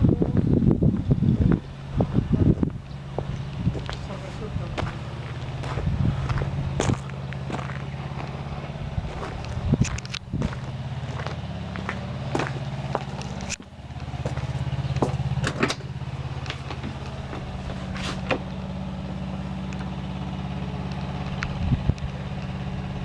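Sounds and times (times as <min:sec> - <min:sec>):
low motor hum: 0:00.0 - 0:23.0.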